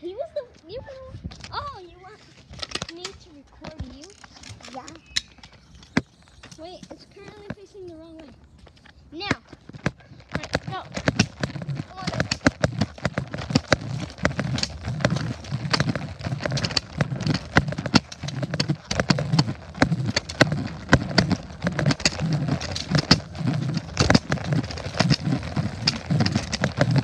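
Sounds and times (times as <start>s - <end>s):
footsteps on sidewalk: 0.1s - 27.0s.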